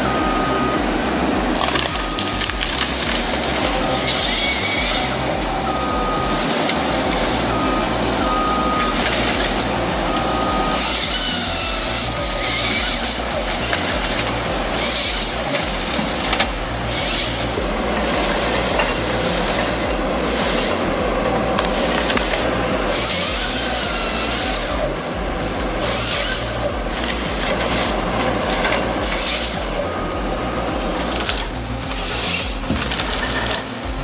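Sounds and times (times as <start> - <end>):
heavy diesel machinery running: 0.0 - 34.0
hissing air bursts: 0.0 - 34.0
short beeping tone: 0.0 - 34.0.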